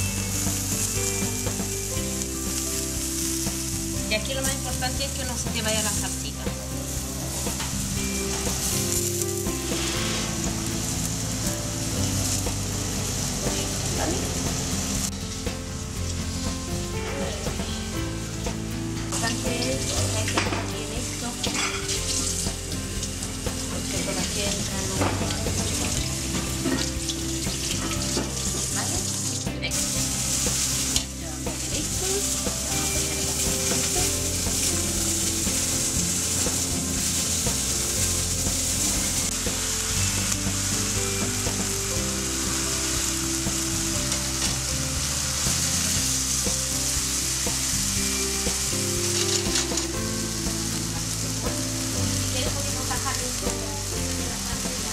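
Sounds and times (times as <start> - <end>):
mushrooms sizzling in frying pan: 0.0 - 54.9.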